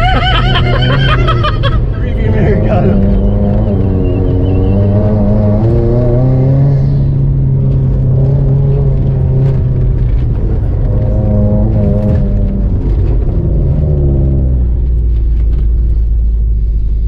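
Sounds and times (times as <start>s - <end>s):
car engine revving: 0.0s - 17.0s
tyres rumbling on dirt: 0.0s - 17.0s.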